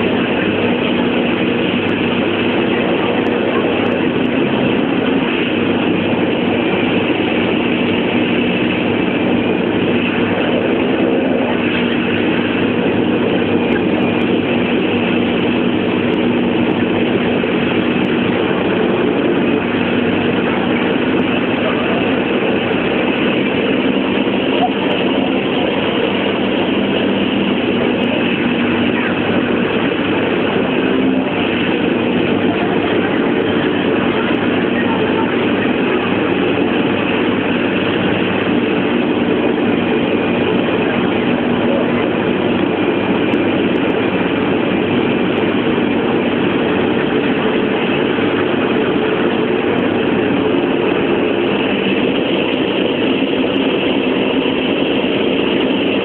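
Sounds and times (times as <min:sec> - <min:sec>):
hovercraft engines droning: 0:00.0 - 0:56.0.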